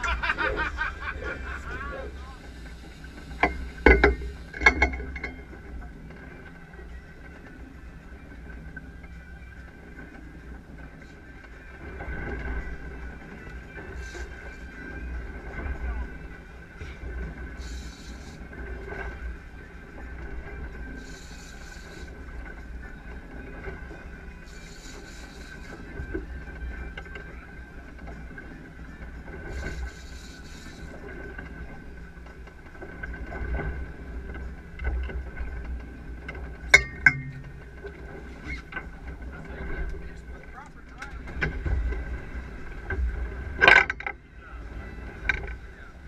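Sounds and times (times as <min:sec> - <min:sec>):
boat engine rumbling: 0:00.0 - 0:46.0
water noise: 0:00.0 - 0:46.0
wind: 0:00.0 - 0:46.0.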